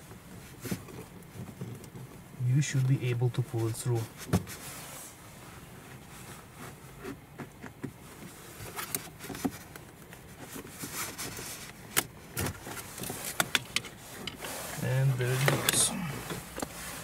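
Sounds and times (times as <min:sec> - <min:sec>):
plastic rustling: 0:00.3 - 0:17.0.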